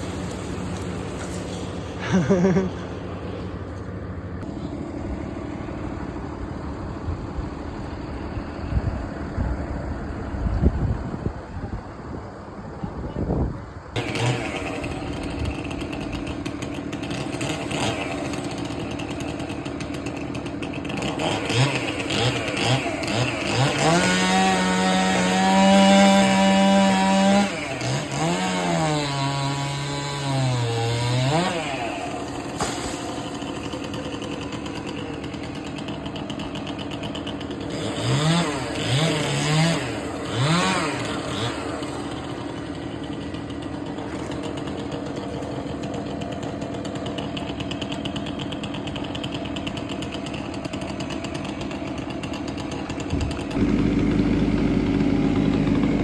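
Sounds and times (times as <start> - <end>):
chainsaw revving: 0.0 - 3.4, 14.0 - 56.0.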